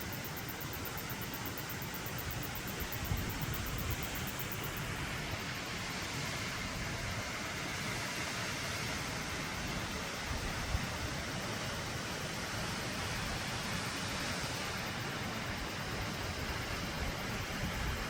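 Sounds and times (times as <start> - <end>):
rush of falling water: 0.0 - 18.0.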